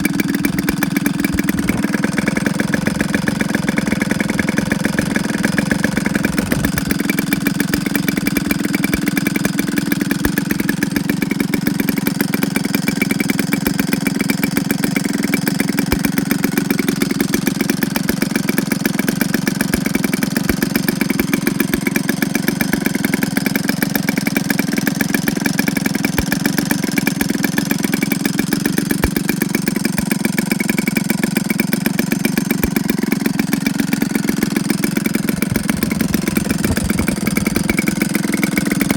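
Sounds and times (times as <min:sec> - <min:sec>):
model aircraft engine running: 0:00.0 - 0:38.9.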